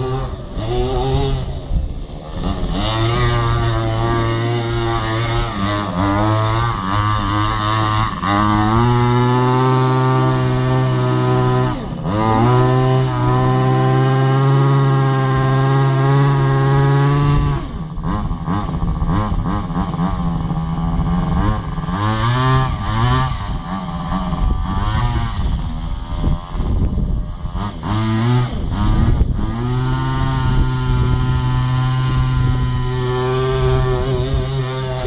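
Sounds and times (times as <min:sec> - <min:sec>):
small two-stroke engine revving: 0:00.0 - 0:35.0.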